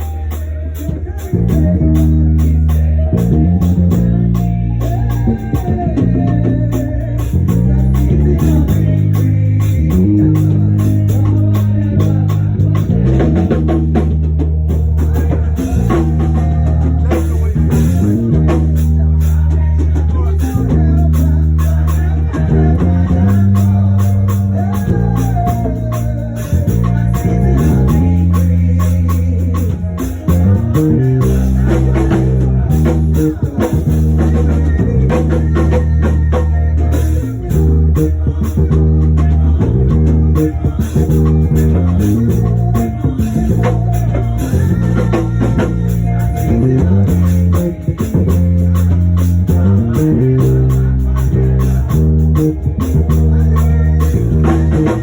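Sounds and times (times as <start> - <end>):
bass guitar line: 0.0 - 55.0
live band playing: 0.0 - 55.0.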